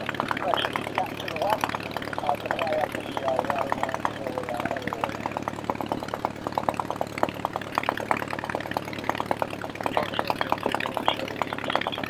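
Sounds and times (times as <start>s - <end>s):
aircraft engine idling: 0.0s - 12.0s
exhaust pops: 0.0s - 12.0s.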